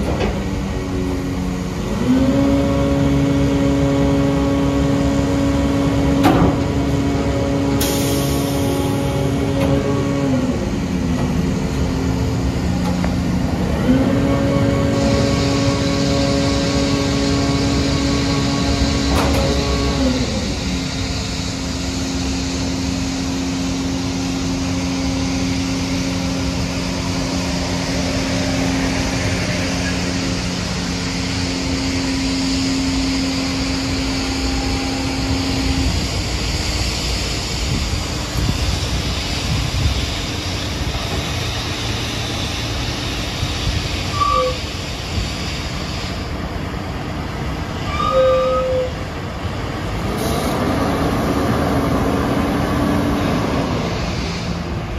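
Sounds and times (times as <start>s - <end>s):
diesel truck engine humming: 0.0s - 54.9s.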